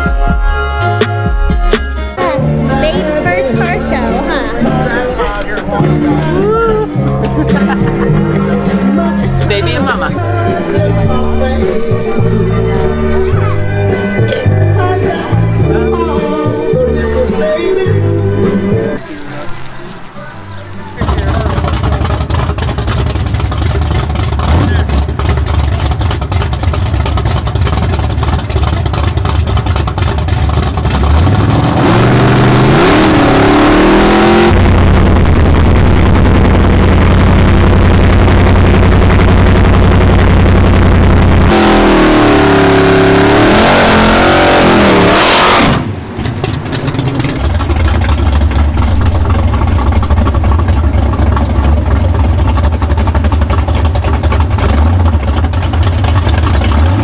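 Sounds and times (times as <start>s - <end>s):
car engine revving: 2.2s - 57.0s.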